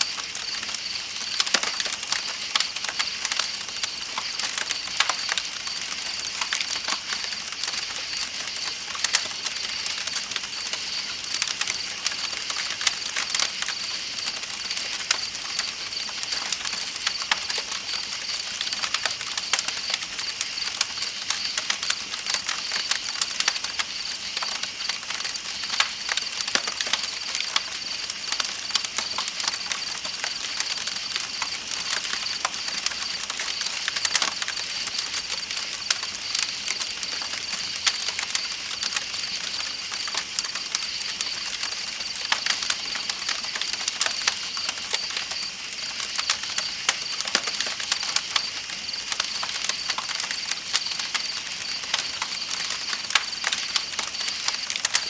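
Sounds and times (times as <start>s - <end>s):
campfire crackling and popping: 0.0s - 55.0s
night insects chirring: 0.0s - 55.0s.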